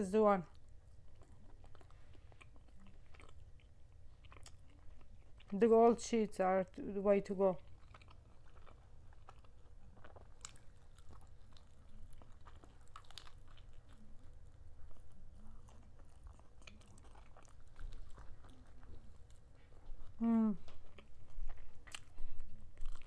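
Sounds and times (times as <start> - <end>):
person chewing food: 0.5 - 5.7, 7.6 - 23.0.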